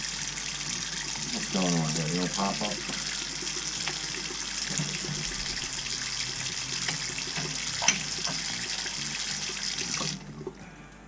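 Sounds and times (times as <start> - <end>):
faucet running into basin: 0.0 - 10.6.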